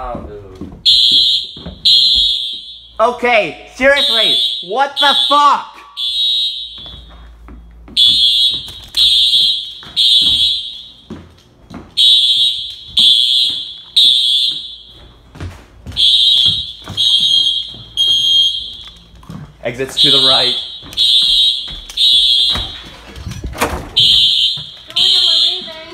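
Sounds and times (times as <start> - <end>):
hurried footsteps: 0.0 - 3.0, 6.2 - 25.9
fire alarm beeping: 0.8 - 25.9.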